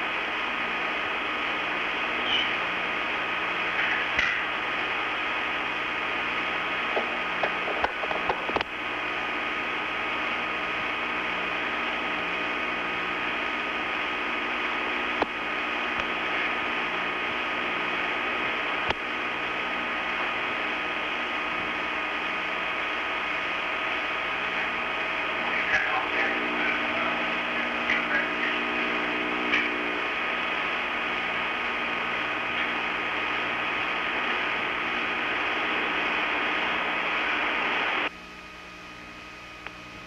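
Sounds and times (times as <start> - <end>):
faint hum tones: 0.0 - 40.0.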